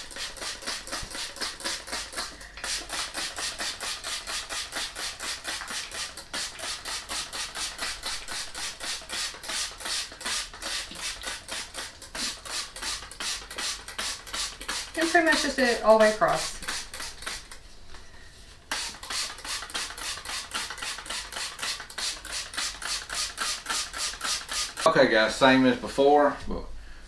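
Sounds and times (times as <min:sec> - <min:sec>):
spray bottle squirts: 0:00.0 - 0:17.6, 0:18.7 - 0:24.9.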